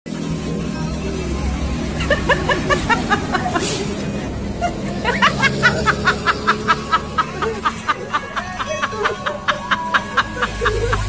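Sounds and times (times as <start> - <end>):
high snickering laughter: 2.0 - 11.0.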